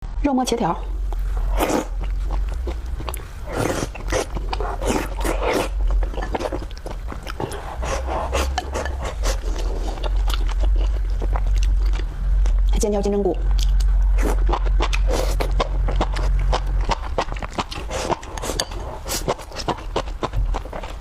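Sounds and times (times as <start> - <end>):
low hum: 0.0 - 21.0
chewing and slurping food: 1.1 - 12.7, 13.5 - 21.0.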